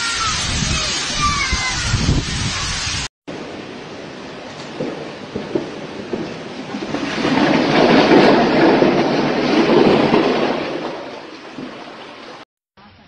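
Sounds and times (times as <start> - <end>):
hail and heavy rain pelting: 0.0 - 12.4.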